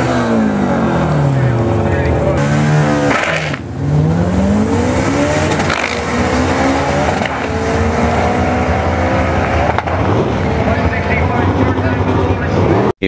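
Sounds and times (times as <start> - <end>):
drag car accelerating hard: 0.0 - 12.9.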